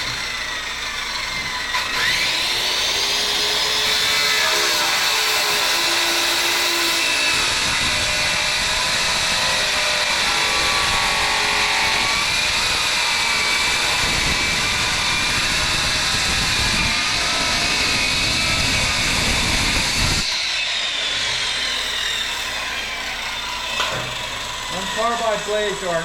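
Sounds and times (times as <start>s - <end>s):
power saw cutting aluminum: 0.0s - 26.0s.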